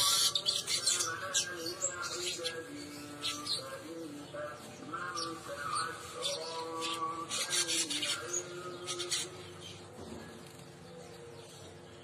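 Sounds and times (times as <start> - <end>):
bird singing in rasping buzzes: 0.0 - 12.0.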